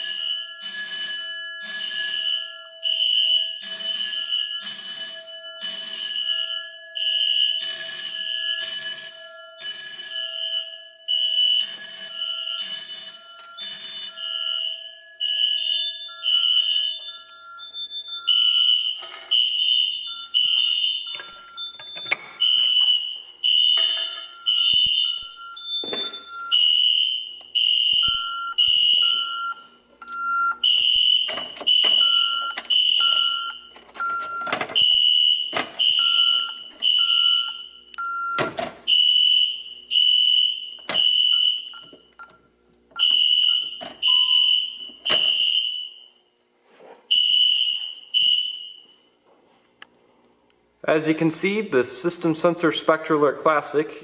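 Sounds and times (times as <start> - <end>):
fire alarm blasts: 0.0 - 46.3, 47.1 - 49.2, 50.9 - 54.0.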